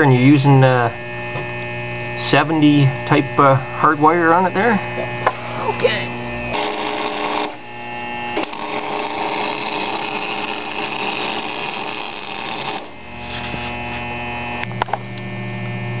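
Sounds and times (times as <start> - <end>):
welder arc sizzling: 0.0 - 15.3
steady low hum: 0.0 - 16.0.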